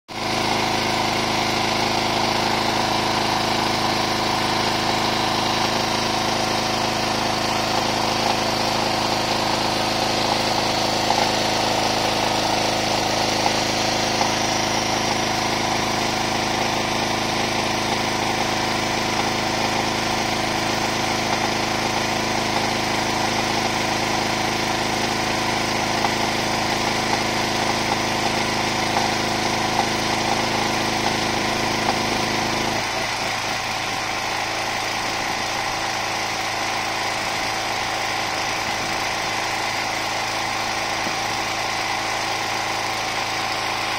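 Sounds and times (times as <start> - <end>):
petrol generator running: 0.1 - 43.9.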